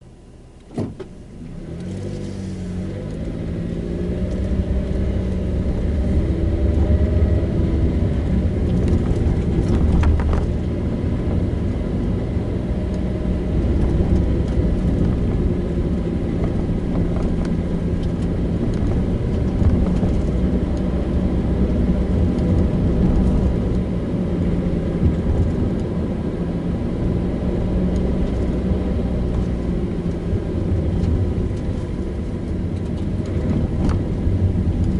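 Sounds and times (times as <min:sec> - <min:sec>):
road rumble: 0:00.0 - 0:34.9
car engine accelerating: 0:00.5 - 0:34.9.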